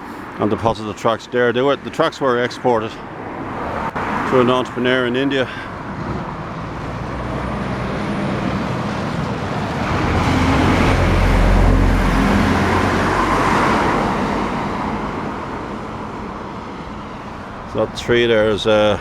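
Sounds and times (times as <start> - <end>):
road vehicle passing: 2.9 - 19.0.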